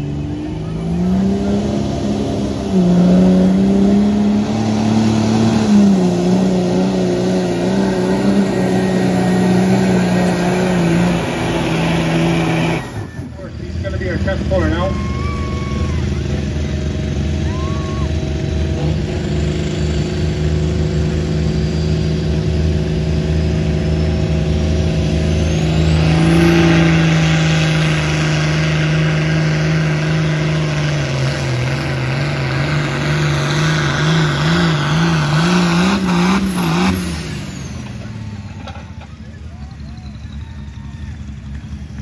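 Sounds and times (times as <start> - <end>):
diesel tractor engine running hard: 0.0 - 42.0.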